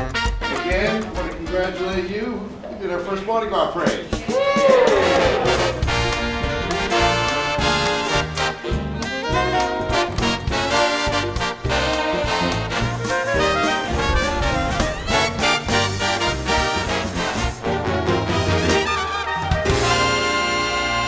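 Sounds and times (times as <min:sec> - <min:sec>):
steady drum beat: 0:00.0 - 0:02.2, 0:03.8 - 0:21.0
trumpets and trombones: 0:00.0 - 0:02.3, 0:04.8 - 0:21.0.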